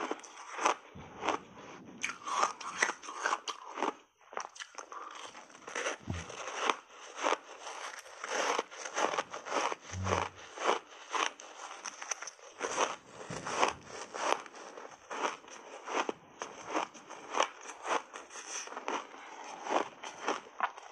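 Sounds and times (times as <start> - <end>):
crunching ice bar being chewed: 0.0 - 20.9.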